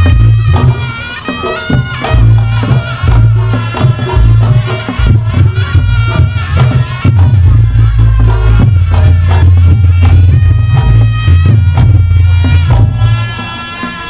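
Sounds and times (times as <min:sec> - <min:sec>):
drum and gong booms: 0:00.0 - 0:00.9, 0:01.7 - 0:13.4
shrill reed shawm melody: 0:00.0 - 0:14.0.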